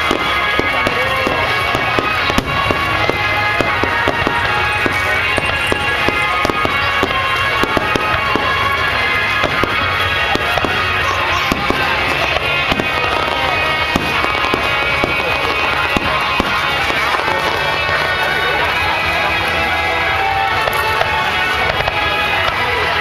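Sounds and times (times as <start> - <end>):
fireworks bangs and crackles: 0.0 - 23.0
music playing: 0.0 - 23.0.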